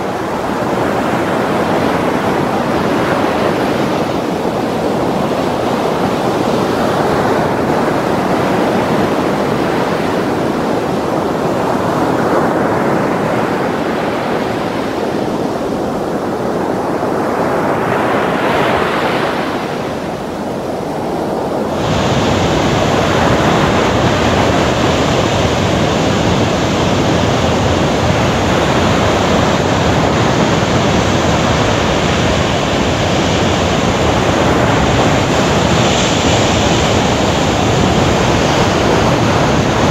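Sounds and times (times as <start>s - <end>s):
surf crashing on rocks: 0.0s - 39.9s.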